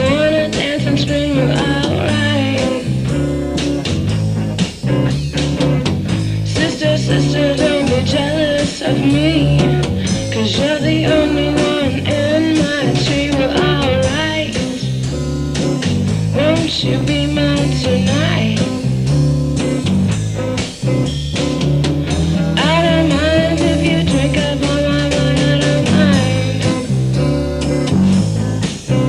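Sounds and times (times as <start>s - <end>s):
electric guitar blues lead: 0.0s - 29.0s
low accompaniment: 0.0s - 29.0s.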